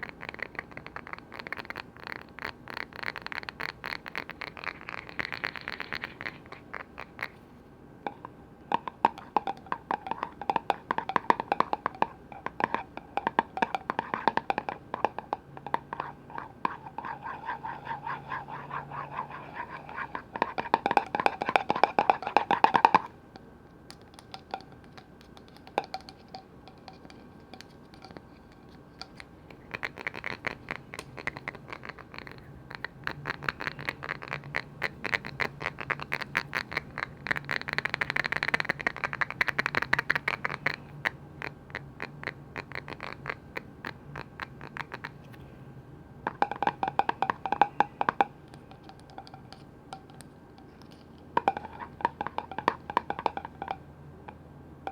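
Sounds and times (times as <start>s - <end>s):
tapping and scratching on lids: 0.0s - 7.4s, 8.1s - 45.4s, 46.3s - 54.9s.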